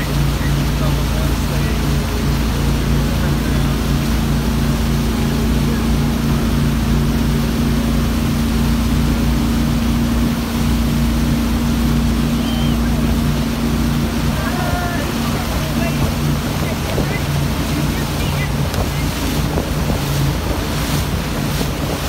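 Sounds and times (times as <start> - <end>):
churning water rushing: 0.0 - 22.0
motorboat engine throbbing: 0.0 - 22.0.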